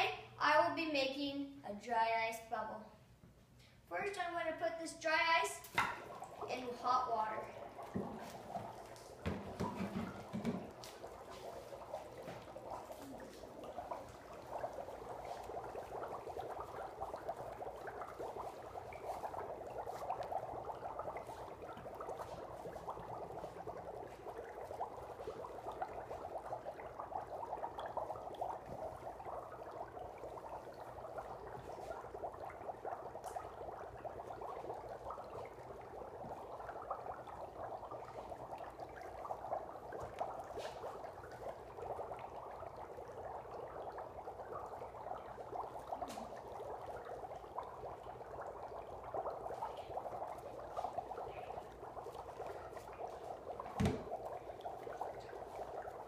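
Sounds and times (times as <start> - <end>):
dry ice bubbling in water: 4.0 - 56.0.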